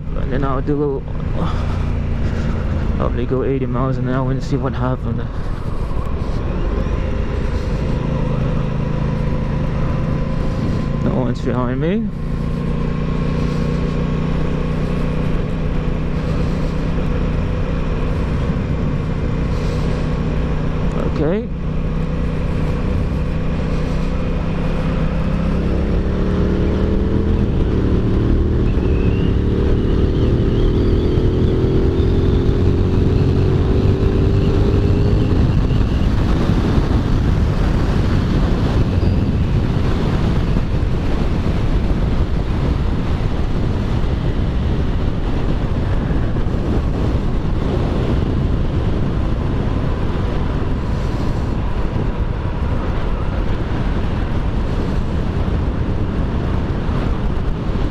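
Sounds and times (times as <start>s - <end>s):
motorcycle engine accelerating: 0.0s - 57.9s
wind rush at speed: 0.0s - 57.9s.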